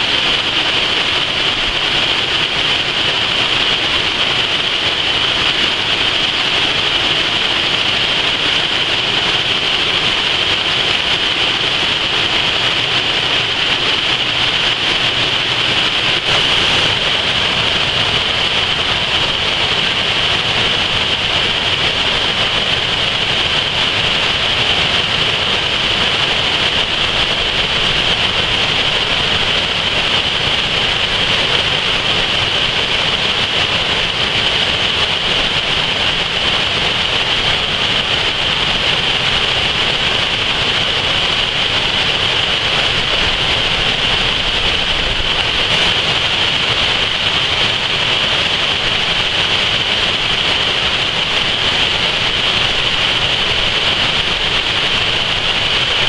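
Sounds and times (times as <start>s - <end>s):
waterfall rushing over rock: 0.0s - 56.0s.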